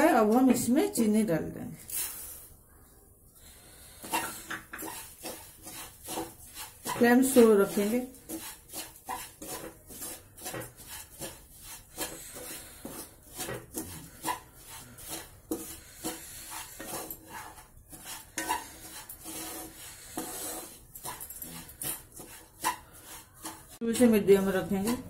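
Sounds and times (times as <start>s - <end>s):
wooden spatula scraping a pan: 3.8s - 25.0s.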